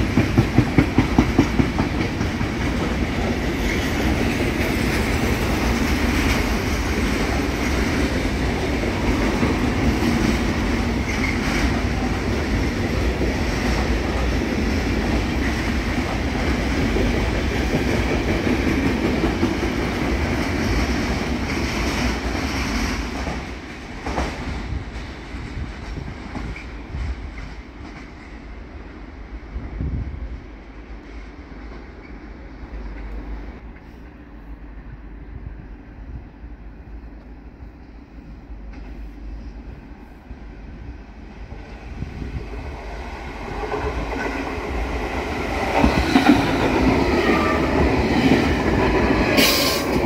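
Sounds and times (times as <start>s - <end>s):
freight train wagons on rails: 0.0s - 50.0s.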